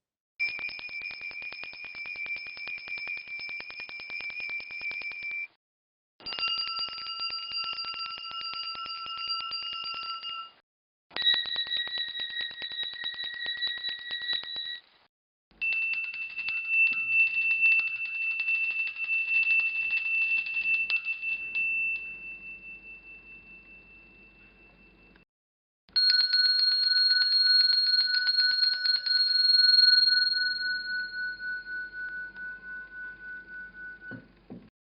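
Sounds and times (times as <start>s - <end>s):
small bells ringing rapidly: 0.4s - 5.5s, 6.2s - 10.6s, 11.2s - 14.8s, 15.6s - 24.2s, 25.9s - 34.1s.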